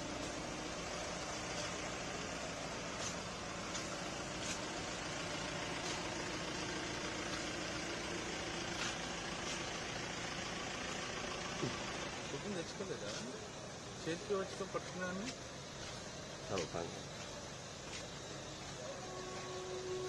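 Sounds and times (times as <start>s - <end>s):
traffic hiss: 0.0s - 20.0s
vehicle engine idling: 0.0s - 20.0s.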